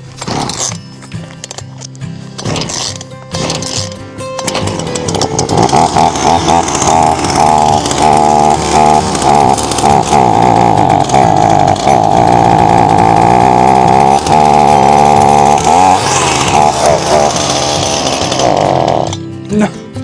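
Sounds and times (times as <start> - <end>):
chainsaw engine at high revs: 0.0 - 0.8, 2.4 - 19.3.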